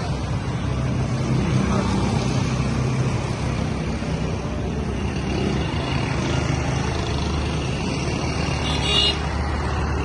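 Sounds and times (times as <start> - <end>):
road and wind noise: 0.0 - 10.0
tractor engine drone: 0.0 - 10.0.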